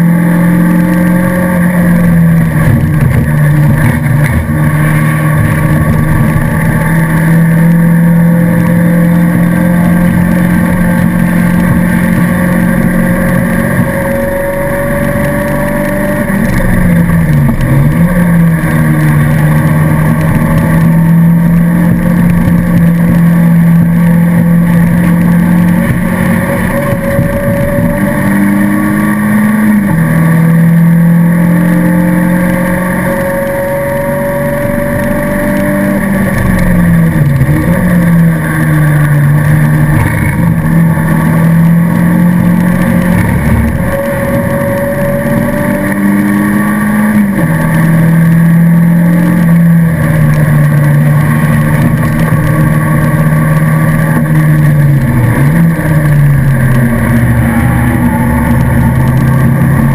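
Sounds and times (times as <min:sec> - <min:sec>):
race car engine running hard: 0:00.0 - 0:59.9
wind and road noise: 0:00.0 - 0:59.9.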